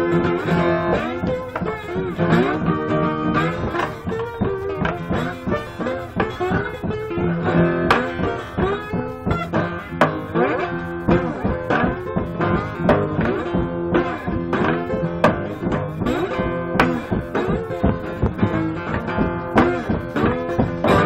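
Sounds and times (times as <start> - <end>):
slide blues acoustic guitar: 0.0 - 21.0.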